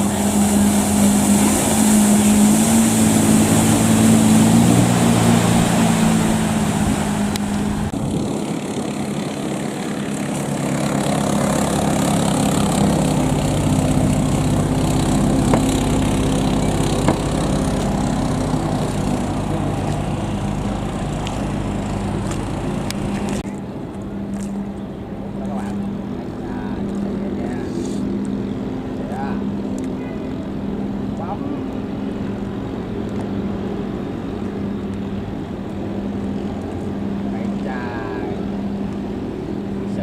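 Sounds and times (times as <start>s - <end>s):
boat engines at high revs: 0.0s - 40.0s.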